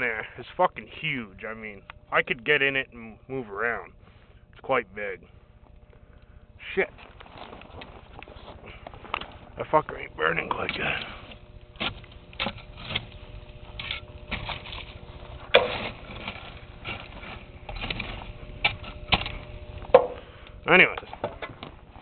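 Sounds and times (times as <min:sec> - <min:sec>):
faint steady hum: 0:00.0 - 0:22.0
wood fire crackling and popping: 0:03.7 - 0:22.0.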